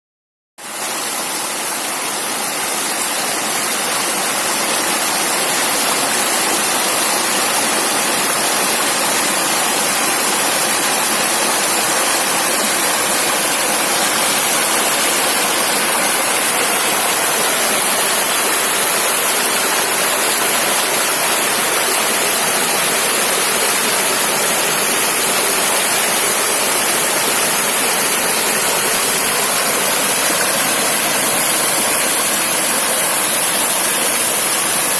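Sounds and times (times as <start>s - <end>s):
river rushing over stones: 0.6s - 34.9s.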